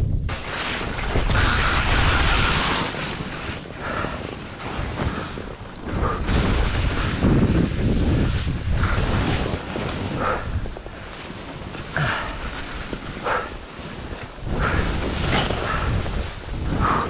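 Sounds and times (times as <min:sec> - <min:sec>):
wind buffeting microphone: 0:00.0 - 0:17.0
skis carving through snow: 0:00.3 - 0:17.0.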